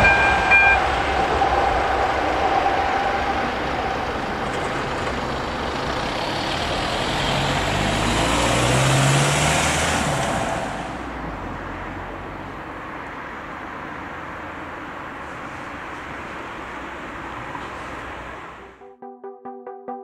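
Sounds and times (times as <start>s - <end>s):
heavy vehicle engine passing: 0.0s - 18.8s.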